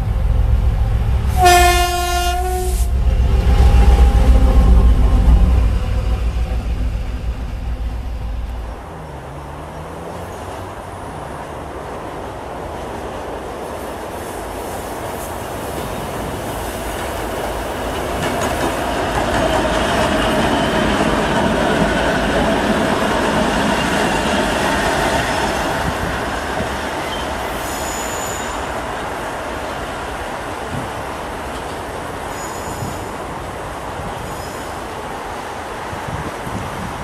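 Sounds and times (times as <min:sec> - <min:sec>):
diesel locomotive passing: 0:00.0 - 0:37.0.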